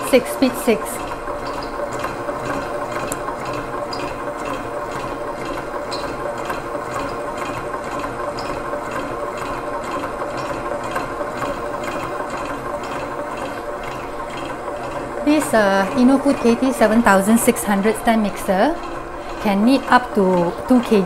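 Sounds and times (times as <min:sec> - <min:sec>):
mixture churning: 0:00.0 - 0:21.0
stand mixer motor hum: 0:00.0 - 0:21.0.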